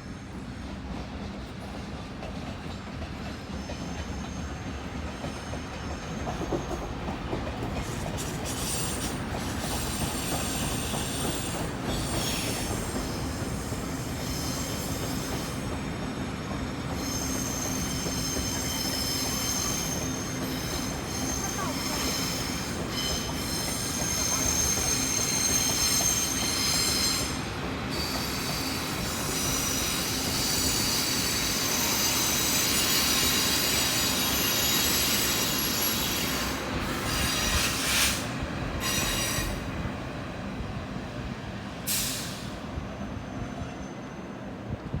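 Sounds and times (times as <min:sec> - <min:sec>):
train wheels squealing on rails: 0:00.0 - 0:45.0.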